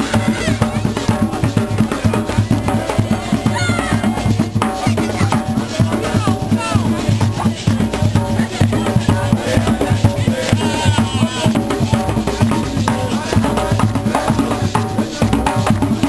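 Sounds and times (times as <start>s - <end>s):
hand drums in fast rhythm: 0.0s - 16.0s.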